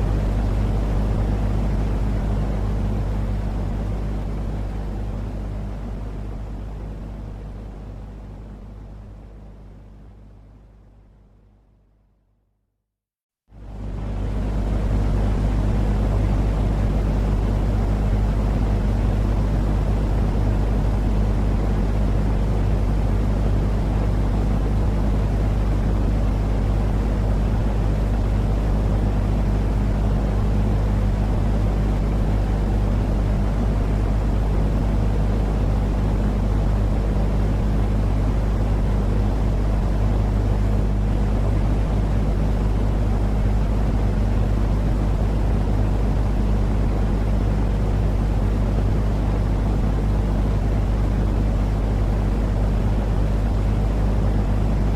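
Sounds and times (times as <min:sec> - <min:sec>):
white noise drone: 0:00.0 - 0:11.6, 0:13.5 - 0:54.9.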